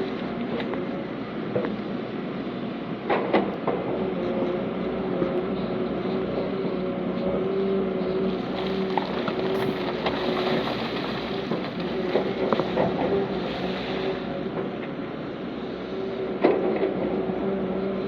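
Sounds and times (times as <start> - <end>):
heavy diesel engine under load: 0.2 - 18.0.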